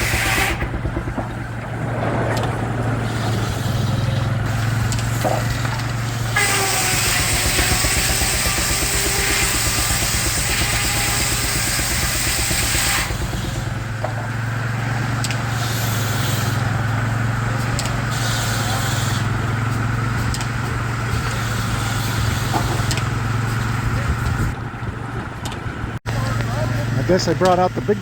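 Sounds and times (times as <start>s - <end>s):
steam sawmill low hum: 0.0s - 28.0s.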